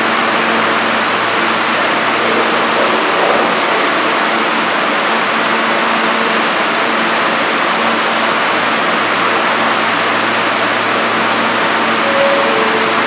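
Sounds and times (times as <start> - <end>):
subway car ventilation rushing: 0.0 - 13.0.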